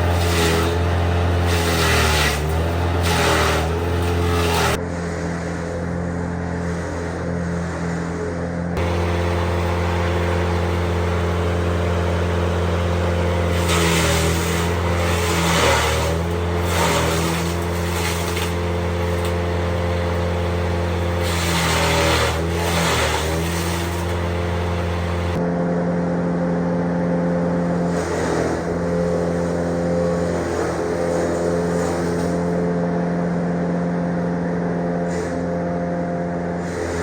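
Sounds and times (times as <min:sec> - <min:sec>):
farm machine engine running: 0:00.0 - 0:37.0.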